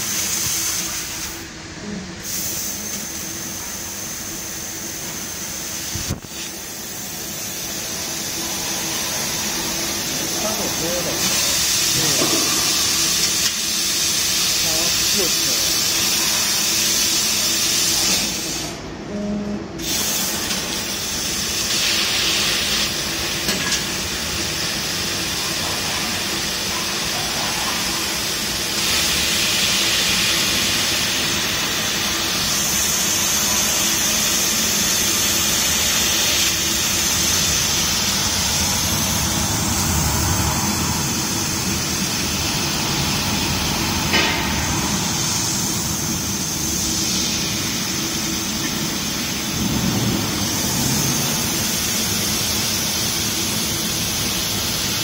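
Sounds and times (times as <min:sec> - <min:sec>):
laser cutter gas jet hissing: 0:00.0 - 0:18.8, 0:19.8 - 0:55.0
machine running noise: 0:00.0 - 0:55.0.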